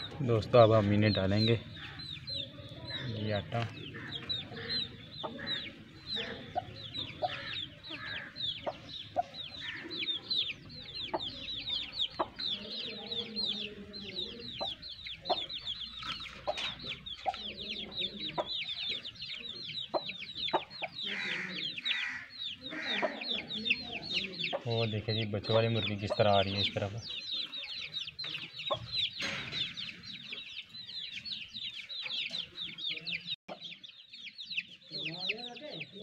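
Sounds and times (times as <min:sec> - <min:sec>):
hens clucking: 0:00.0 - 0:34.0
chicks peeping: 0:00.0 - 0:36.0.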